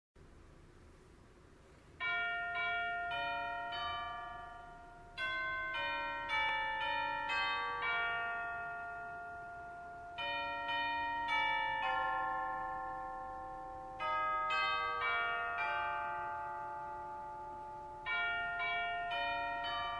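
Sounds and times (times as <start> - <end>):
bell chimes playing slow melody: 2.0 - 19.9.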